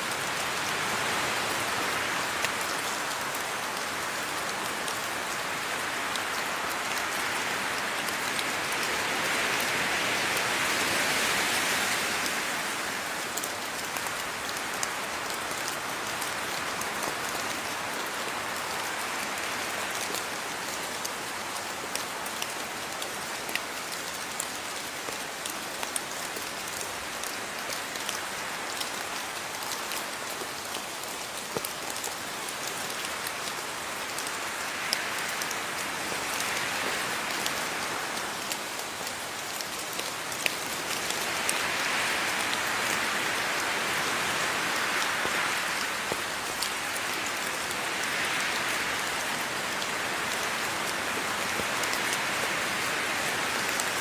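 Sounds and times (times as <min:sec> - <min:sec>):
rain drops ticking on a surface: 0:00.0 - 0:54.0.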